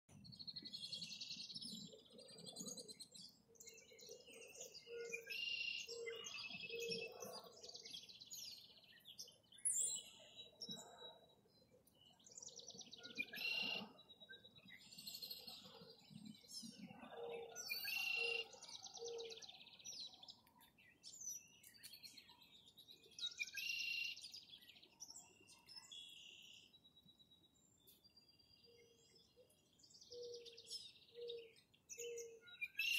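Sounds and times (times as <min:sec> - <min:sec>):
songbirds trilling: 0:00.1 - 0:32.9.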